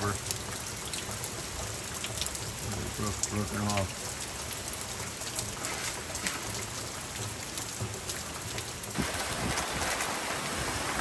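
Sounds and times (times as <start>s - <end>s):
heavy rain on plants: 0.0s - 11.0s
sharp drips: 0.0s - 11.0s.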